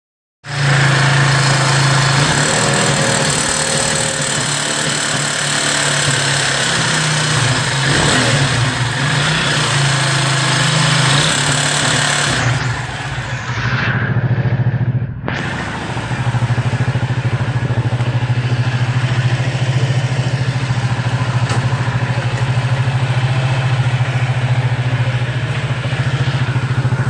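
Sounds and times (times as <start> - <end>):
motorcycle engine running: 0.5 - 27.0.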